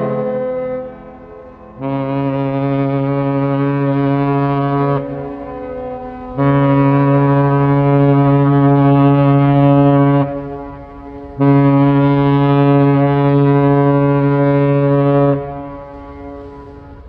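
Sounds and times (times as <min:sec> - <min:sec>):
ship's horn blasts: 0:00.0 - 0:17.0.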